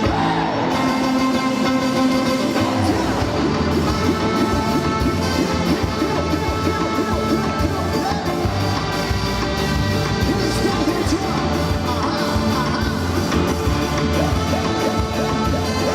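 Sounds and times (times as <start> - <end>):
live ska band: 0.0 - 15.9.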